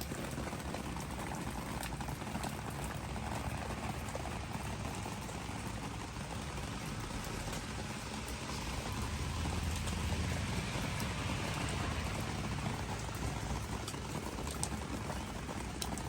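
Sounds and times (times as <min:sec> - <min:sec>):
rain pattering on leaves: 0:00.0 - 0:16.0
sharp raindrop ticks: 0:00.0 - 0:16.0.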